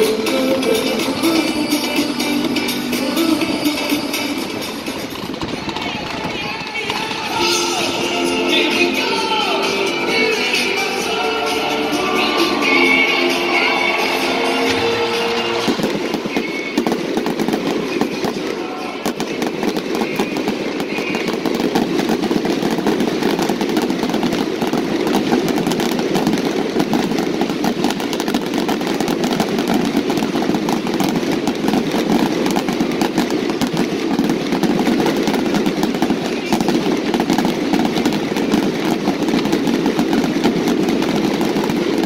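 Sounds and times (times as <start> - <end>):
fireworks popping and crackling: 0.0 - 42.0.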